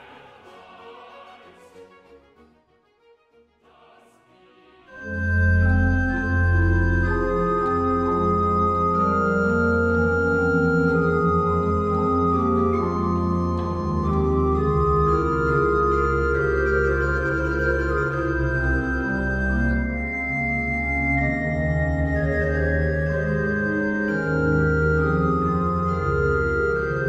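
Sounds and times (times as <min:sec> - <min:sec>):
pipe organ chords: 0:04.9 - 0:27.0
deep organ pedal bass: 0:05.0 - 0:27.0.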